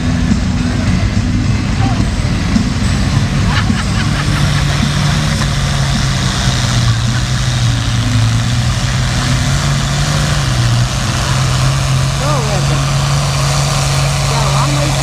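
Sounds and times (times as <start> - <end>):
tractor engine under heavy load: 0.0 - 15.0.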